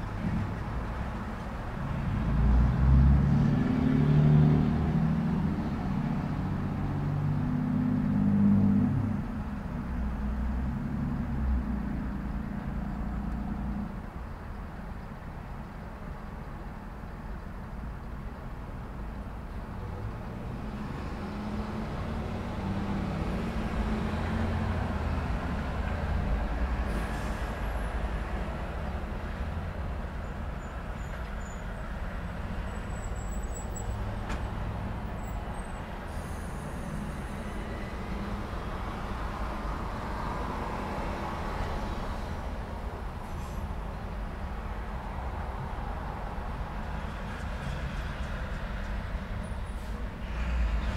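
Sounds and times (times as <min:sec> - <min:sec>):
heavy vehicle engine rumble: 0:00.0 - 0:50.9
passing cars: 0:00.0 - 0:50.9.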